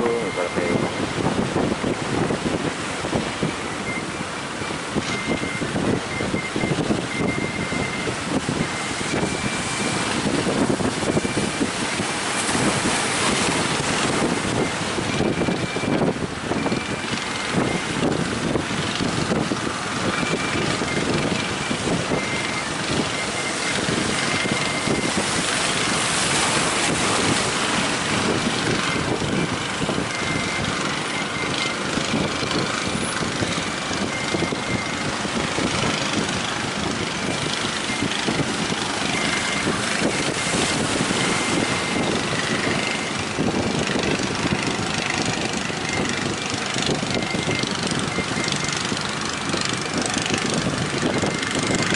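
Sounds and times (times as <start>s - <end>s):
surf: 0.0s - 51.9s
wind buffeting microphone: 0.0s - 51.9s
motor running steadily: 7.1s - 51.9s.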